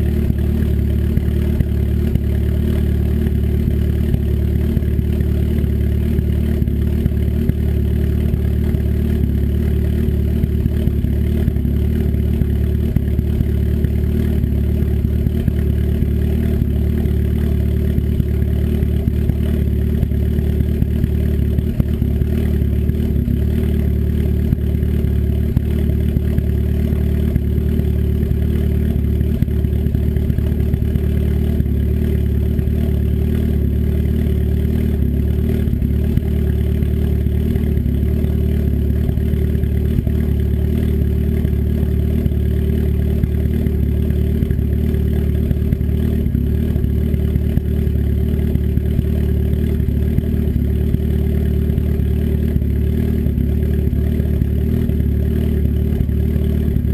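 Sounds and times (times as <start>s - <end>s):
turbocharged engine idling: 0.0s - 56.9s.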